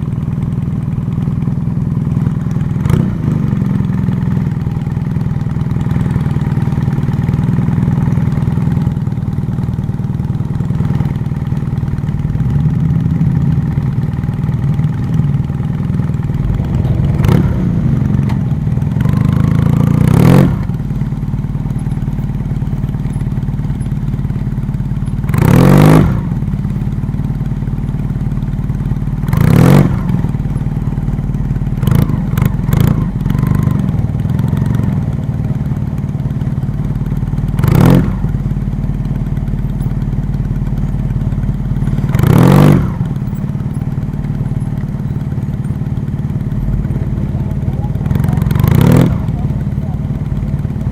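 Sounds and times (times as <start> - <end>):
vehicle engine running: 0.0 - 50.9.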